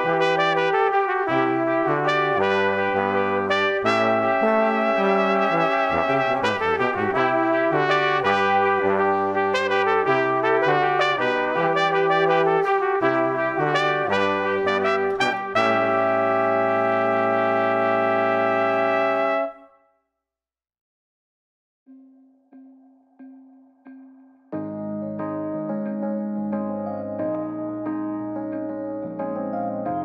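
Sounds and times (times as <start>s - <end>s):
instrumental music with held chords: 0.0s - 19.8s, 21.9s - 30.0s.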